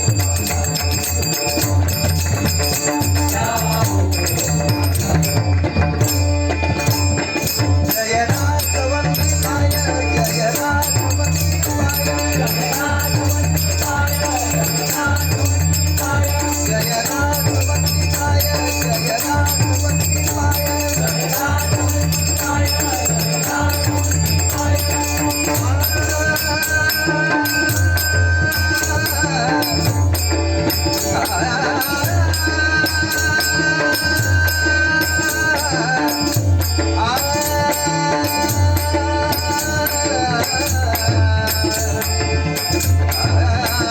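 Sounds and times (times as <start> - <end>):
jingling cymbals: 0.0 - 43.9.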